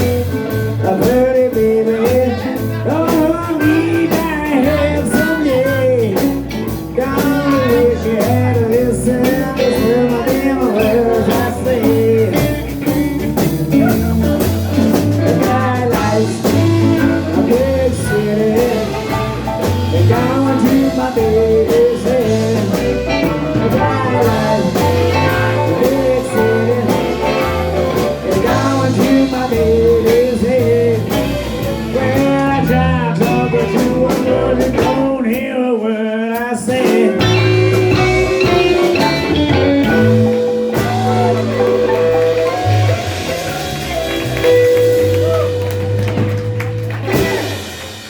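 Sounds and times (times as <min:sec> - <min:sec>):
blues guitar lead with bent notes: 0:00.0 - 0:35.5, 0:36.4 - 0:48.0
bass and drums: 0:00.0 - 0:48.0.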